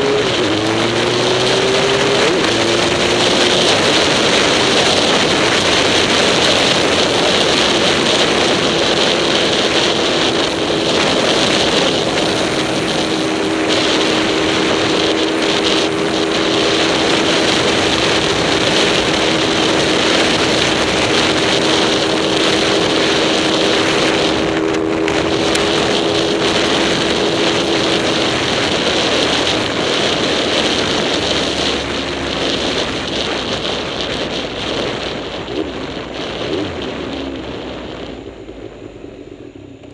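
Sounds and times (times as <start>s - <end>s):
vehicle engine running: 0.0s - 39.9s
wind noise on microphone: 0.0s - 39.9s.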